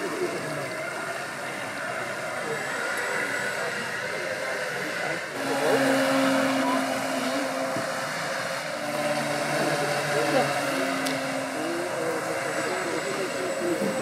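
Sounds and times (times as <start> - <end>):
model speedboat motor humming: 0.0 - 14.0.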